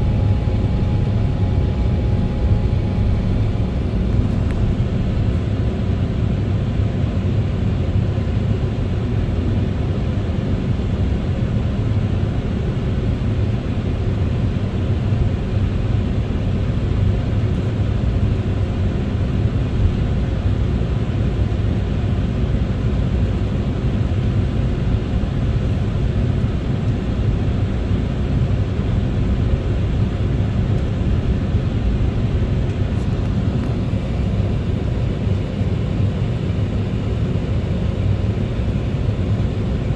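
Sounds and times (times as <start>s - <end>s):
faint steady engine tone: 0.0s - 39.9s
jet engines low rumble: 0.0s - 39.9s.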